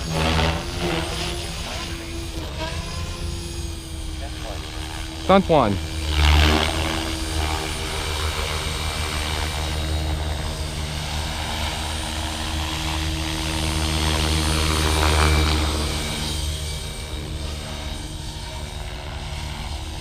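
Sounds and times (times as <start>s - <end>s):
rc helicopter droning: 0.0s - 20.0s.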